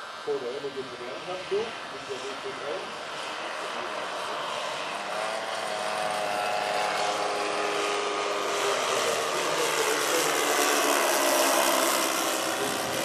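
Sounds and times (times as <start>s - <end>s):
model airplane propeller drone: 0.0s - 13.0s.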